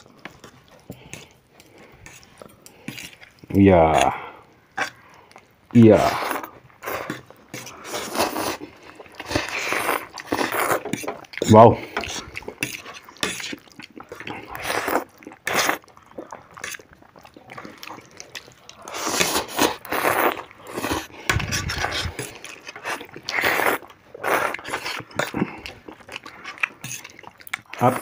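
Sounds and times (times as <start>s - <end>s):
people slurping noodles: 0.0s - 5.1s, 5.8s - 28.0s.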